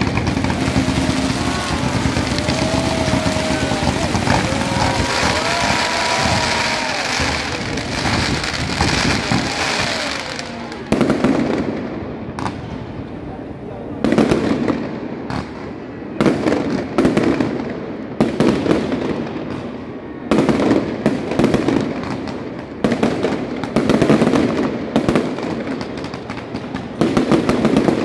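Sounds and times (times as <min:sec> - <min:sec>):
fireworks bursting: 0:00.0 - 0:13.0, 0:14.0 - 0:28.0
fireworks crackling: 0:00.0 - 0:13.0, 0:14.0 - 0:28.0.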